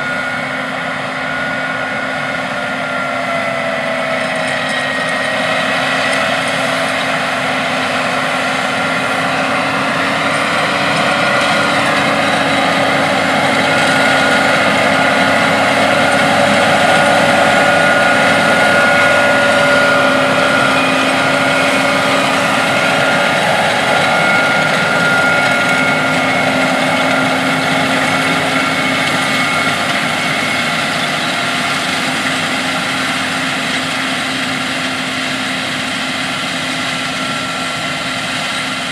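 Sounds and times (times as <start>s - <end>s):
diesel farm machinery running: 0.0s - 38.9s
steady machine whine: 0.0s - 38.9s.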